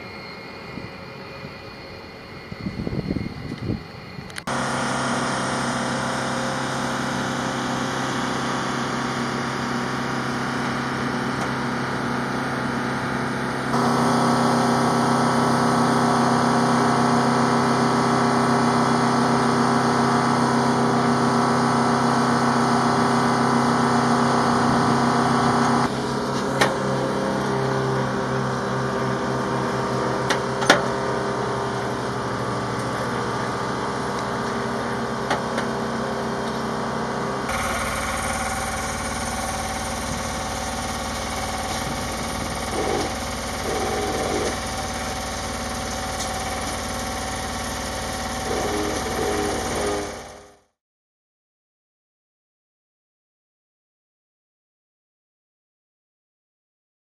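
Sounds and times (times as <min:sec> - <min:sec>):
machine drone: 0:00.0 - 0:50.6.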